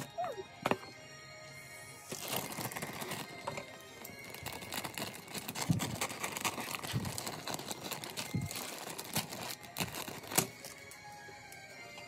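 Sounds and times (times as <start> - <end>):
plastic bags crinkling: 2.0 - 12.0.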